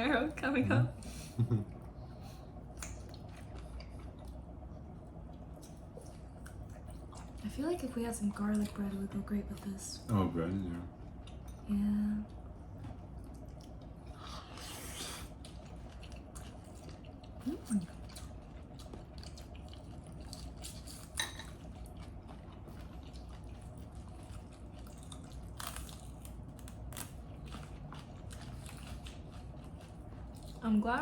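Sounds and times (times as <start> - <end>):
steady low hum: 0.0 - 31.0
people chewing: 1.1 - 4.5, 5.3 - 11.6, 12.8 - 31.0.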